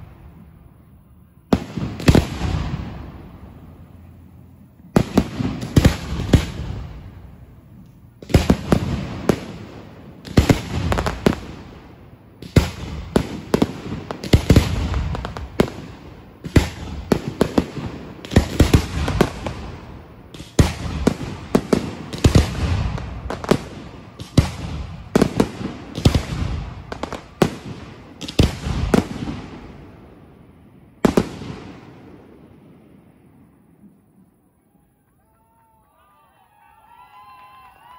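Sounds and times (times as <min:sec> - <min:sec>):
fireworks bangs: 0:00.0 - 0:34.5.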